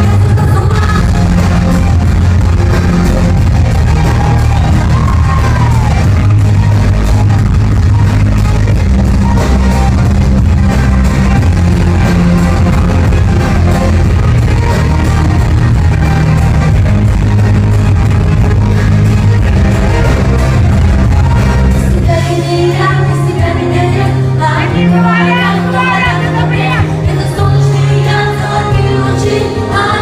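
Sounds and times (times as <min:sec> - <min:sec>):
loud distorted live rock music: 0:00.0 - 0:30.0.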